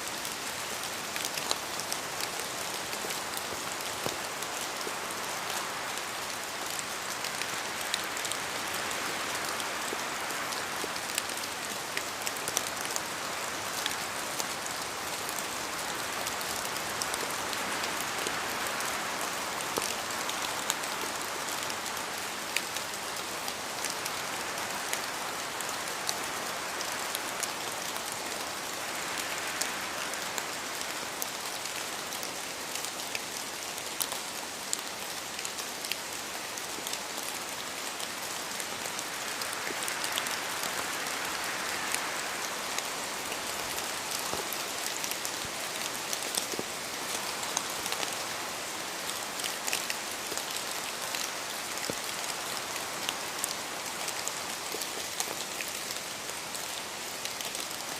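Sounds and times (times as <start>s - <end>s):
rain dripping from trees: 0.0s - 57.9s.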